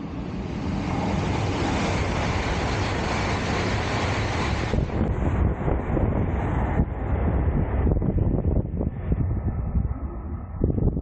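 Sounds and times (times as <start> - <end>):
high-speed train rushing roar: 0.0 - 11.0
wind buffeting microphone: 0.0 - 11.0.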